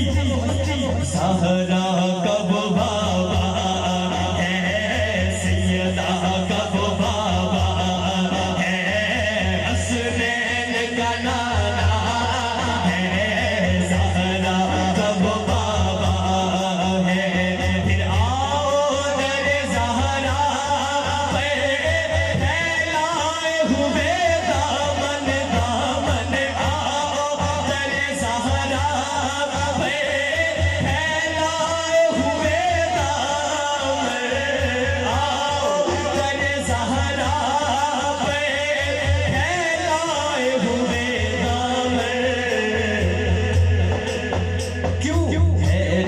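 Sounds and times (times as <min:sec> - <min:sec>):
man singing through loudspeakers: 0:00.0 - 0:46.0.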